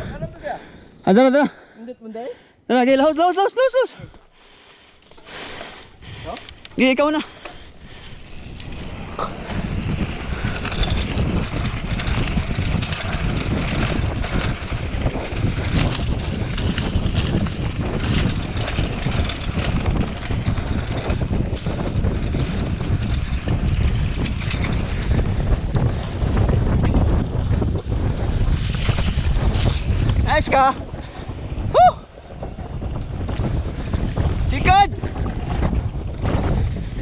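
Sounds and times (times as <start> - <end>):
wind buffeting microphone: 0.0 - 1.8, 3.7 - 37.0
bike rattling on rough track: 3.0 - 37.0.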